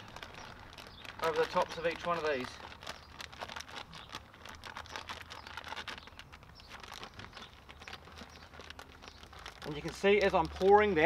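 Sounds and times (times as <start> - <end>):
grains pattering on wood: 0.0 - 11.0
plastic bag crinkling: 0.0 - 11.0.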